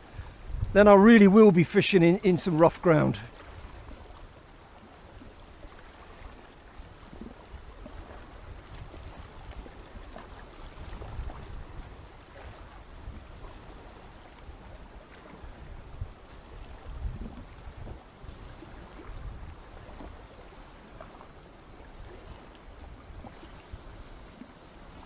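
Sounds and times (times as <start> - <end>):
sea lapping against rocks: 2.8 - 25.0.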